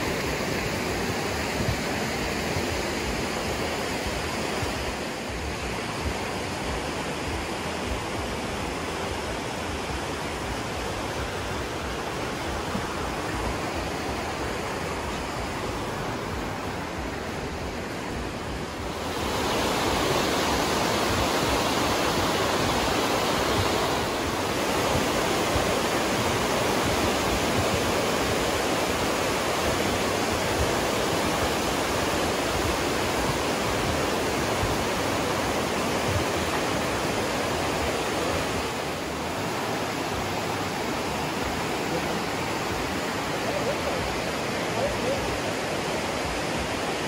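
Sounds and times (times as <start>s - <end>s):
river rushing through gorge: 0.0s - 47.0s.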